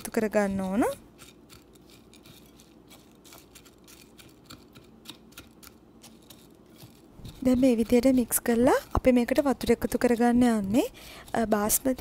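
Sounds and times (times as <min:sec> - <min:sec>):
spatula scraping rice on glass: 0:00.0 - 0:12.0.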